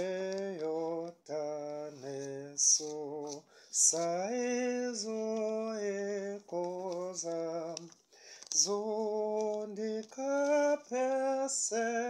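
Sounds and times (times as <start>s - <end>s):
man singing a hymn unaccompanied: 0.0s - 12.0s.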